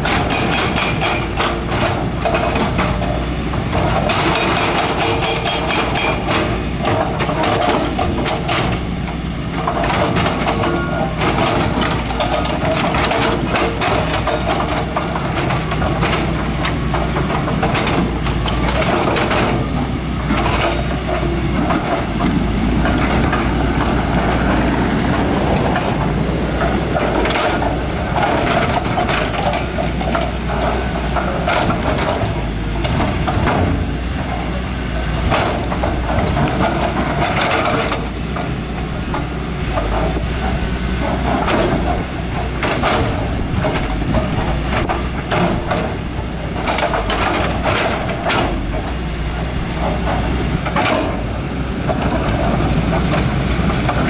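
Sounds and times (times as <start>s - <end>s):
diesel engine running: 0.0s - 54.0s
metallic clanks and knocks: 0.0s - 54.0s.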